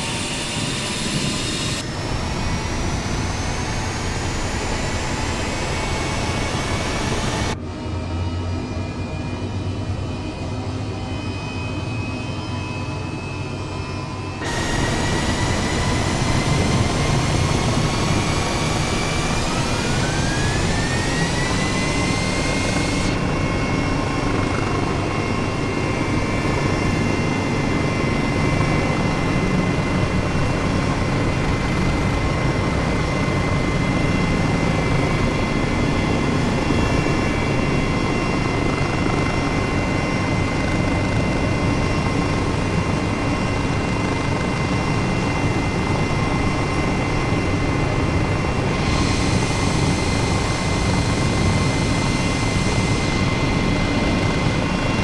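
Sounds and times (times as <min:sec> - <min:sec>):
helicopter turbine whine: 0:00.0 - 0:55.0.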